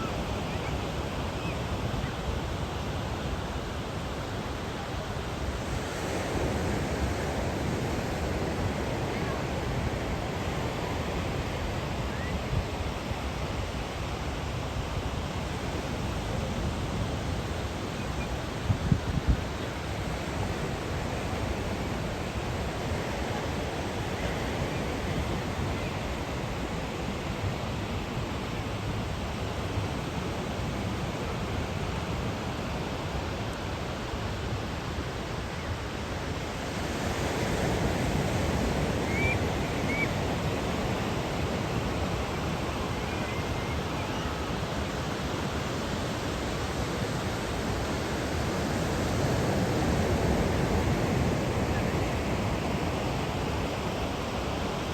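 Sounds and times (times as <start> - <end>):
ocean surf breaking on beach: 0.0 - 54.9.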